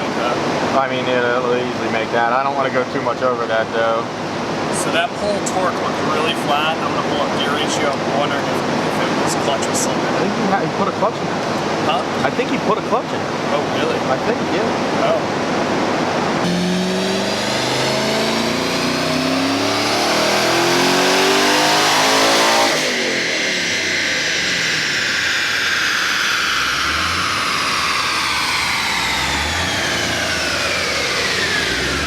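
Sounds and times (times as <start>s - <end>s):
high whine of rollers winding down: 0.0s - 32.0s
engine revving at full throttle: 4.4s - 10.5s, 11.3s - 32.0s.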